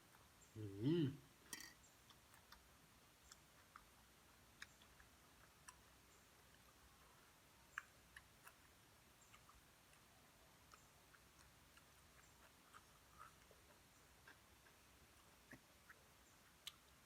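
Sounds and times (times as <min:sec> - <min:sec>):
mouth clicks and smacks of eating: 0:01.5 - 0:17.0.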